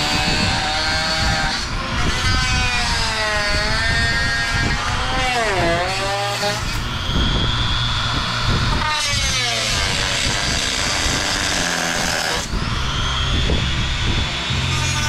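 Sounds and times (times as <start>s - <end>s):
rotary tool cutting plastic: 0.0s - 15.0s.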